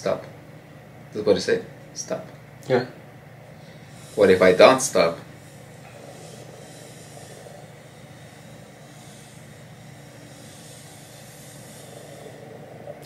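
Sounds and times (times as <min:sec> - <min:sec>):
background hiss: 0:00.0 - 0:13.0
faint low hum: 0:00.0 - 0:13.0.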